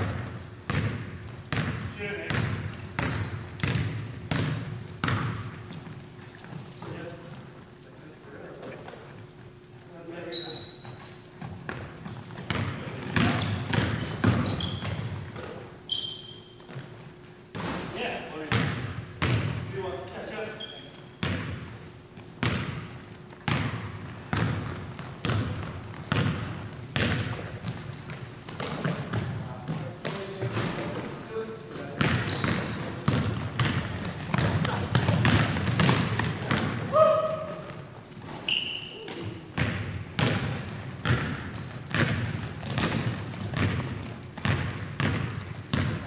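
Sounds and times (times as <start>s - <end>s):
basketball bouncing on wooden floor: 0.0s - 7.0s, 10.6s - 15.6s, 16.6s - 19.6s, 21.2s - 31.1s, 31.7s - 46.0s
sneakers squeaking on floor: 0.0s - 7.7s, 10.1s - 19.5s, 20.2s - 46.0s.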